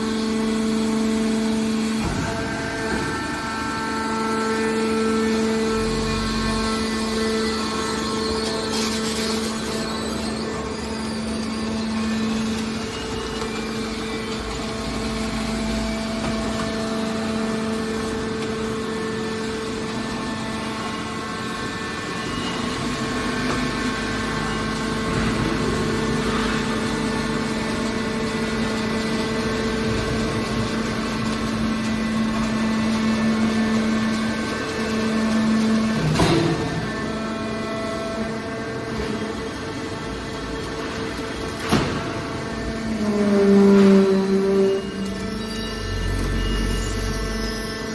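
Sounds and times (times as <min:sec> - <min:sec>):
hydraulic power unit humming: 0:00.0 - 0:47.9.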